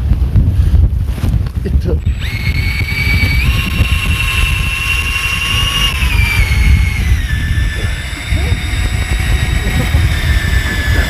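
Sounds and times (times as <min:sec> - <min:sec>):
wind and boat rumble: 0:00.0 - 0:11.0
electric fishing reel whining: 0:02.0 - 0:11.0.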